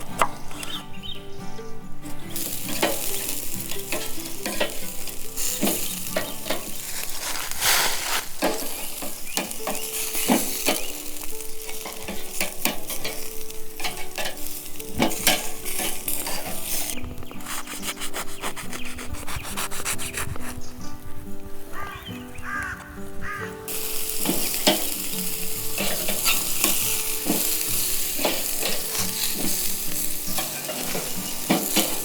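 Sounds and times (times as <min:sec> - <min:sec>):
food sizzling in a pan: 0:02.3 - 0:17.8, 0:21.7 - 0:32.0
utensil scraping a pan: 0:02.4 - 0:20.6, 0:23.7 - 0:32.0.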